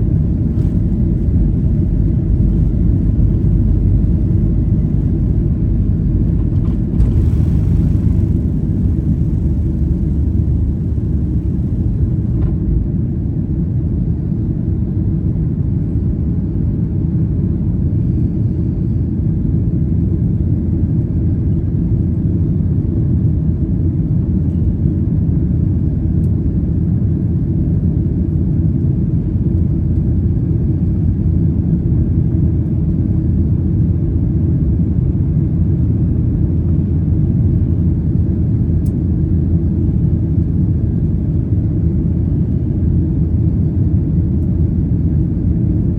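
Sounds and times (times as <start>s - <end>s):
jet cabin engine rumble: 0.0s - 45.9s.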